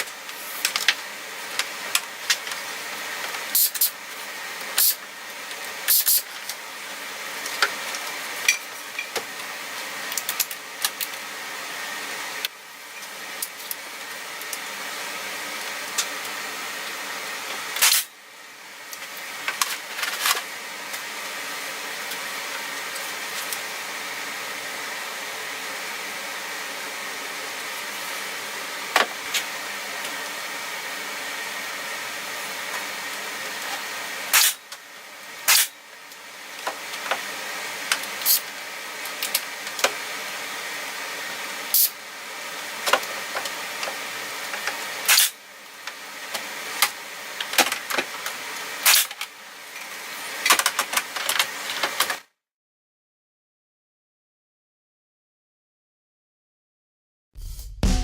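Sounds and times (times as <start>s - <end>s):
steady mechanical hum: 0.0s - 52.2s.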